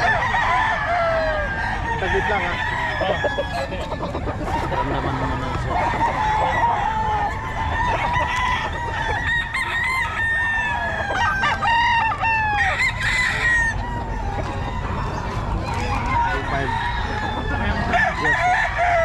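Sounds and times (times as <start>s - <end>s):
roosters crowing: 0.0s - 19.0s.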